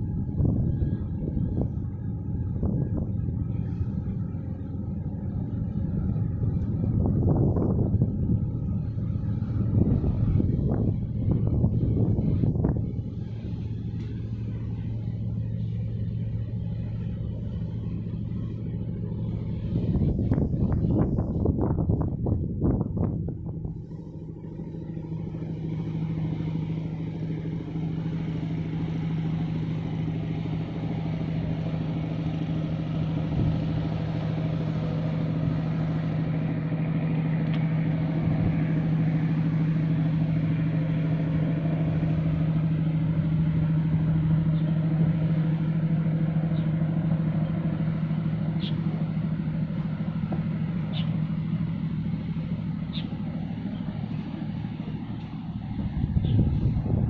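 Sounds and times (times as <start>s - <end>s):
boat engine humming: 0.0s - 57.0s.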